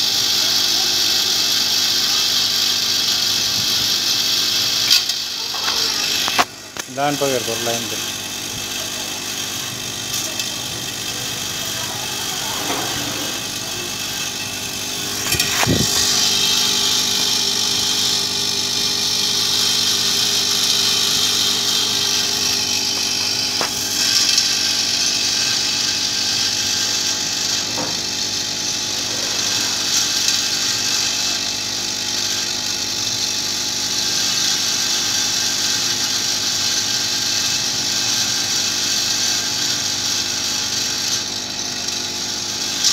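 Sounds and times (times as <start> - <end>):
bowl feeder buzzing: 0.0 - 42.9.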